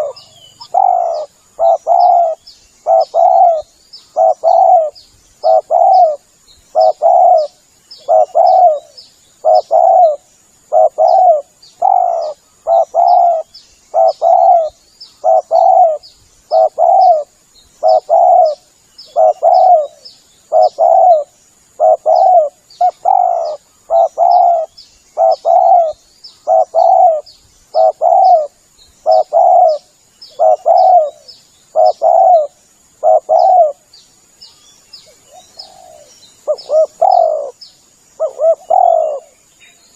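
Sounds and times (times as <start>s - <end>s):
dove cooing: 0.0s - 33.8s, 35.1s - 37.6s, 38.2s - 39.4s.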